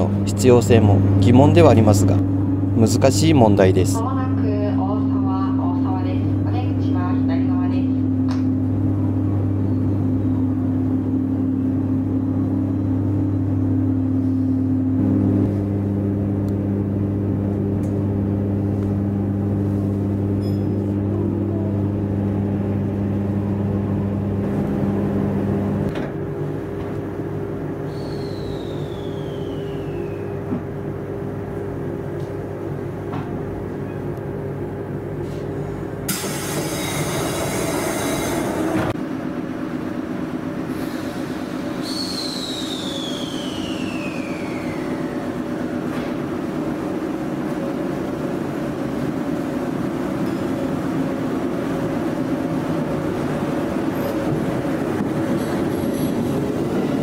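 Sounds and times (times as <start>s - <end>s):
train electrical hum and rumble: 0.0s - 57.0s.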